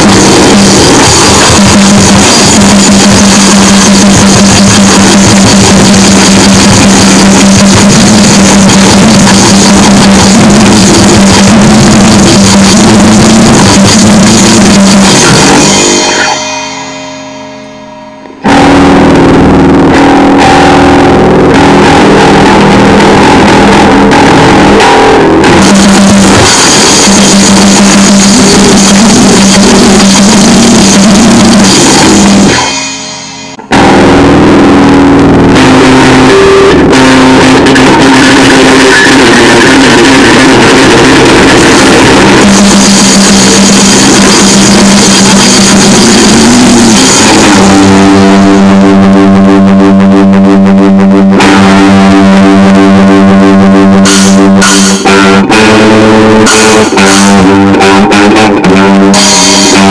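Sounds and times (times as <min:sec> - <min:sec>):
distorted punk guitar and drums: 0:00.0 - 0:59.9
droning guitar chord: 0:00.0 - 0:59.9.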